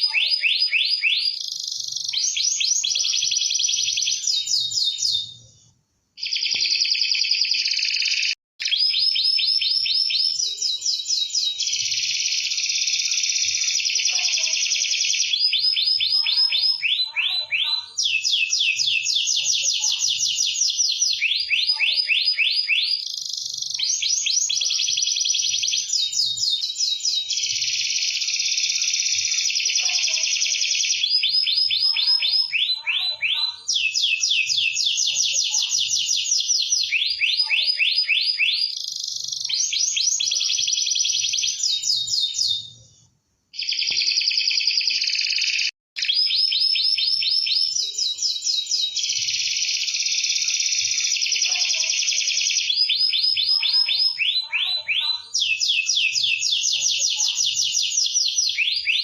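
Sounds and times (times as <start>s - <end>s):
canary singing trills: 0.0s - 5.6s, 6.2s - 42.8s, 43.6s - 59.0s.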